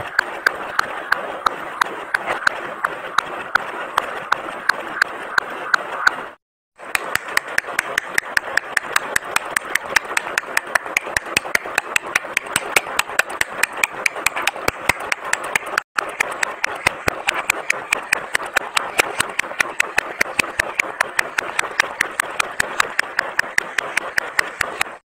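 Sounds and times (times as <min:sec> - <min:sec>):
rapid clicking: 0:00.0 - 0:25.0.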